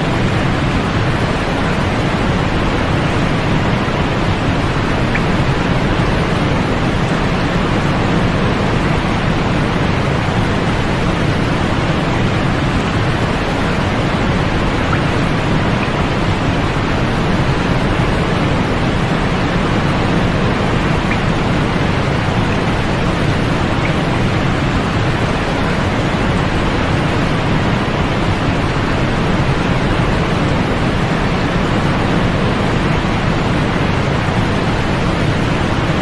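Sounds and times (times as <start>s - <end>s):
steady white noise hiss: 0.0s - 36.0s.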